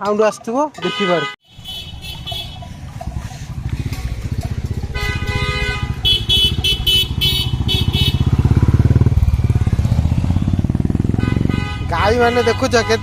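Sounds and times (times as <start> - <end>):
motorcycle engine running: 1.5 - 13.0.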